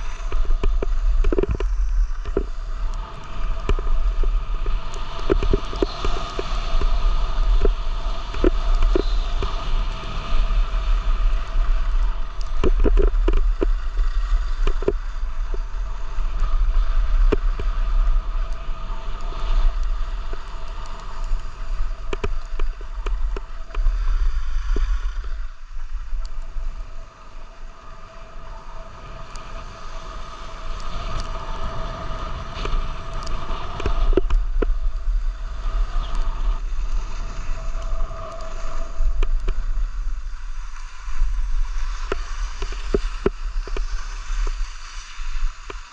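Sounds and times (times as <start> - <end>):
skis hissing over snow: 0.0 - 45.9
wind rumbling on microphone: 0.0 - 45.9.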